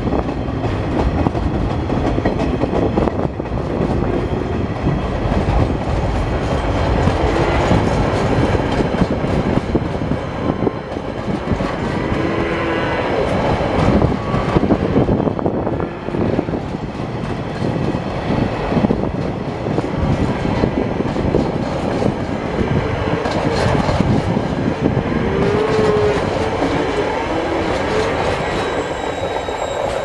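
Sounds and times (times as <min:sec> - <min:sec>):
freight train wheels clattering: 0:00.0 - 0:30.0.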